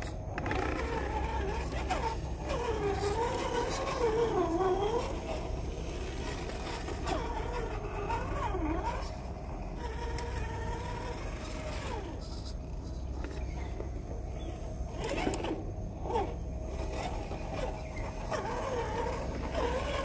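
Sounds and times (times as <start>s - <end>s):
rc car motor whining: 0.0s - 20.0s.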